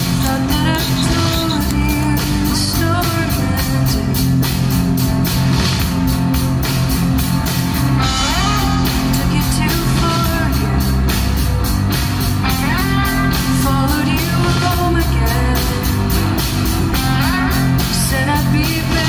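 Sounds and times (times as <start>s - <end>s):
drum kit beat: 0.0s - 19.0s
electric guitar: 0.0s - 19.0s.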